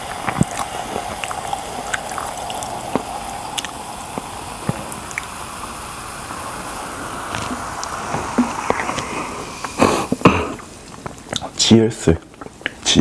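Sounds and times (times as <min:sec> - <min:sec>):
drink pouring into glass: 0:00.0 - 0:11.6.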